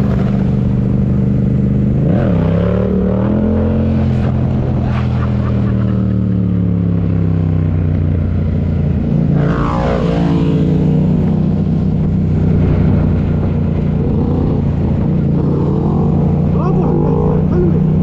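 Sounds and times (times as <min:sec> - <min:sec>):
motorcycle engine running: 0:00.0 - 0:04.8, 0:06.3 - 0:18.0
engine passing by: 0:01.6 - 0:18.0.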